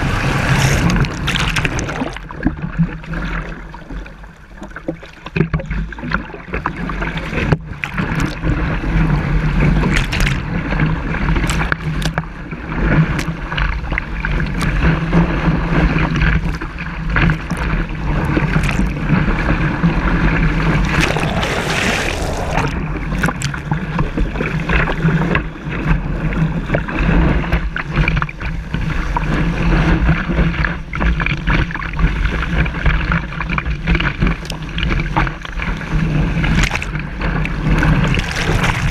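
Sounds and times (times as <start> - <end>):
water rushing under board: 0.0 - 38.9.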